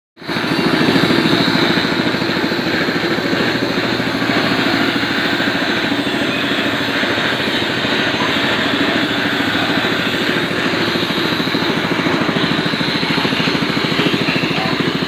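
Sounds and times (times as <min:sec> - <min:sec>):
small petrol engine running: 0:00.2 - 0:15.0.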